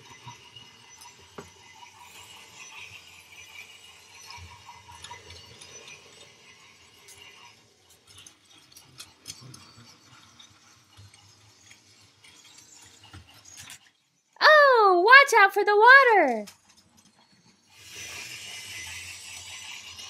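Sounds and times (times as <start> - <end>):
toy train motor whirring: 0.0 - 14.4, 16.5 - 20.0.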